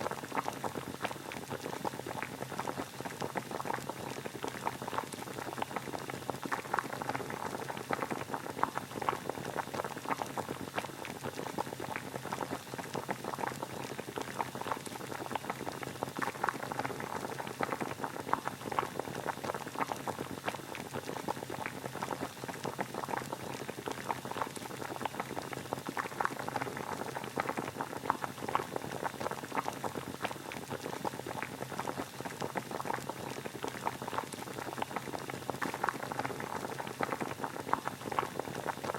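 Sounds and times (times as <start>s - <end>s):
water boiling and bubbling: 0.0s - 38.9s.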